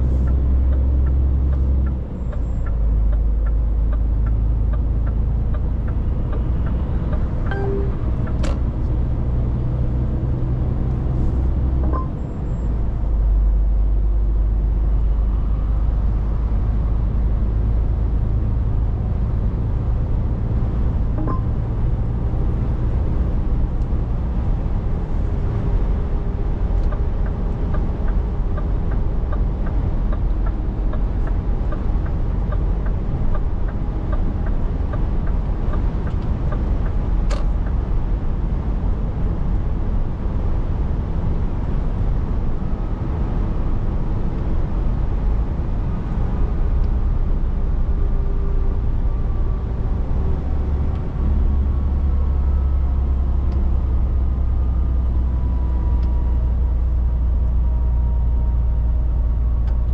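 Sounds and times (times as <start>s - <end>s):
truck diesel engine rumble: 0.0s - 59.9s.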